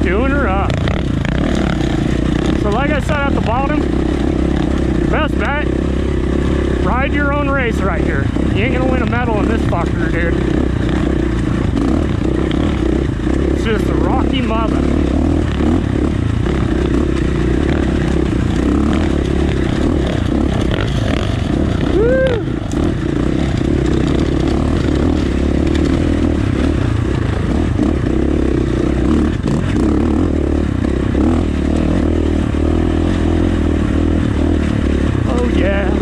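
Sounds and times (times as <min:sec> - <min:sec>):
dirt bike engine under load: 0:00.0 - 0:36.0.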